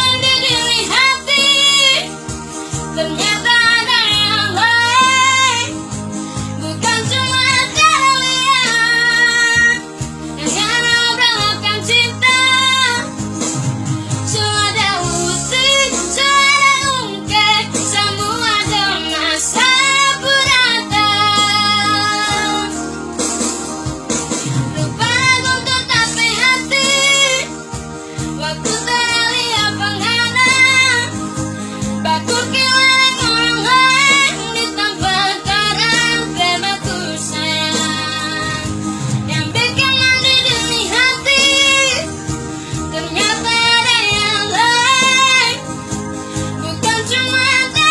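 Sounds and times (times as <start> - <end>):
instrumental accompaniment: 0.0 - 47.9.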